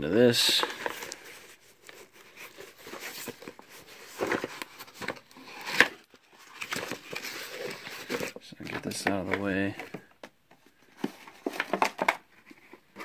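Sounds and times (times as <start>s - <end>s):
cardboard and papers rustling: 0.0s - 13.0s.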